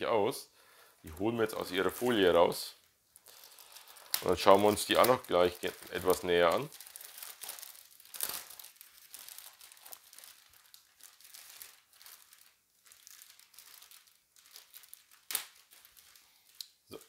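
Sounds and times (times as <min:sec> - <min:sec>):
plastic bag crinkling: 0:01.0 - 0:17.0.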